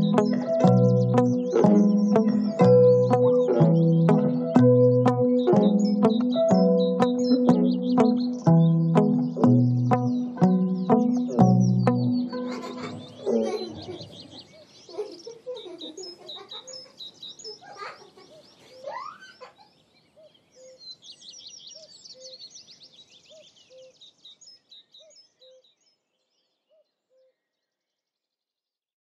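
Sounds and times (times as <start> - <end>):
high bird chirps and trills: 0.0 - 26.0.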